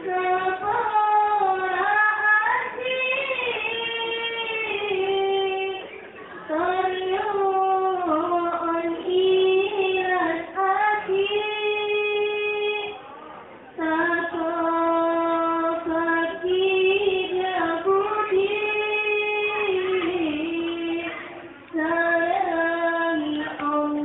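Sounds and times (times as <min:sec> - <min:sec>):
girl singing devotional song: 0:00.0 - 0:13.0, 0:13.8 - 0:24.0.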